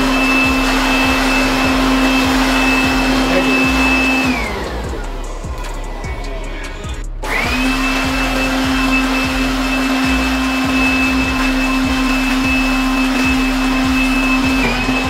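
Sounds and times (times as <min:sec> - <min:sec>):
electric air blower whining: 0:00.0 - 0:15.0.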